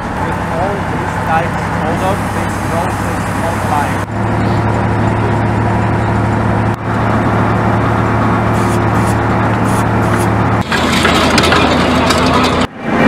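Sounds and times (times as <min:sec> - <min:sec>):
drilling rig engine drone: 0:00.0 - 0:13.0.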